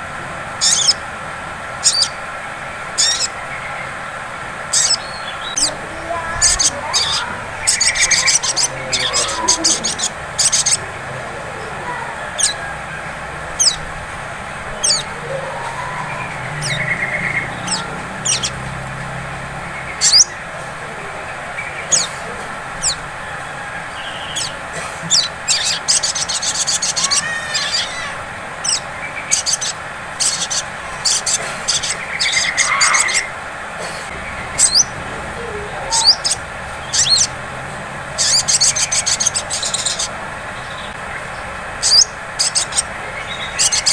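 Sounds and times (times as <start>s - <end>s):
bird chirping and twittering: 0.5s - 1.1s, 1.7s - 43.9s.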